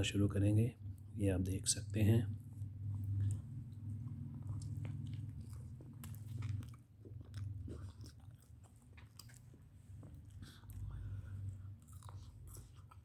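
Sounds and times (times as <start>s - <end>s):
steady low hum: 0.0s - 13.0s
person chewing food: 2.3s - 13.0s.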